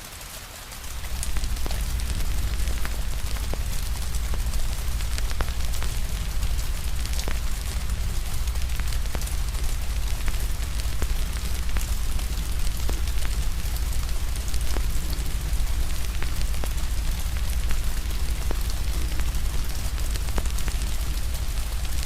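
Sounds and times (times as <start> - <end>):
rain hiss: 0.0 - 22.0
fire crackling: 0.6 - 22.0
low rumble: 0.8 - 22.0.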